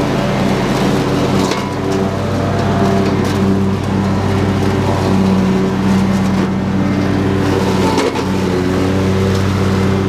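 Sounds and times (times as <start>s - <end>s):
lawn tractor engine running: 0.0s - 10.0s
mower cutting grass: 0.0s - 10.0s.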